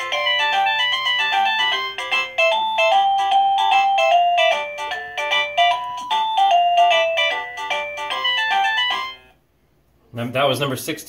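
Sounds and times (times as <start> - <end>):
doorbell chime electronic tune: 0.0 - 9.3.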